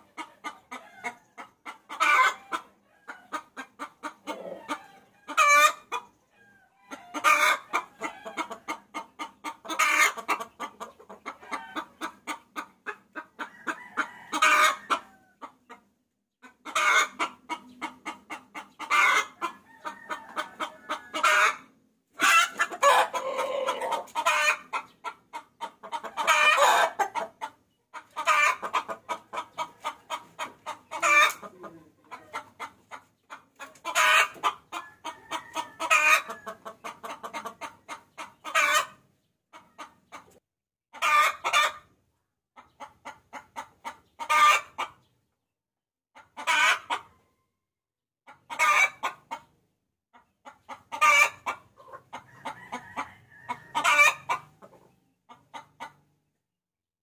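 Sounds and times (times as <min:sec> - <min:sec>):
hen cackling: 0:00.0 - 0:15.8, 0:16.4 - 0:40.2, 0:40.9 - 0:41.8, 0:42.8 - 0:45.0, 0:46.2 - 0:47.1, 0:48.3 - 0:49.4, 0:50.4 - 0:56.0.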